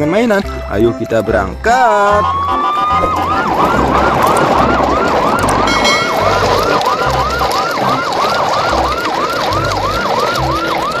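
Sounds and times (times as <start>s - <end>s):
electronic siren yelping: 2.0s - 11.0s.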